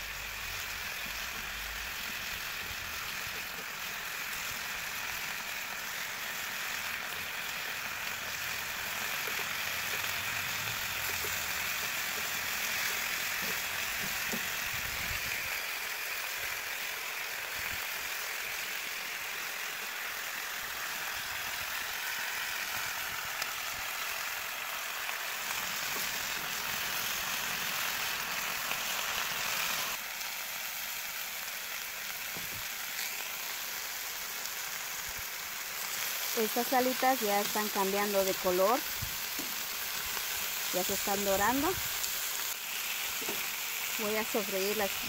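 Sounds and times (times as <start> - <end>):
chicken wings sizzling in a pan: 0.0 - 45.0.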